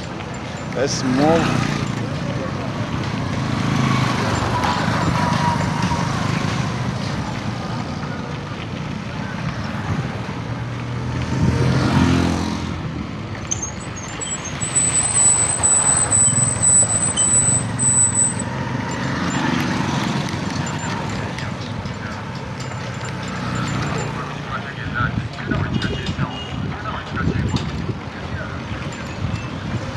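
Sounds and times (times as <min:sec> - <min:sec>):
road traffic: 0:00.0 - 0:29.9
vehicle engine passing: 0:00.7 - 0:25.6.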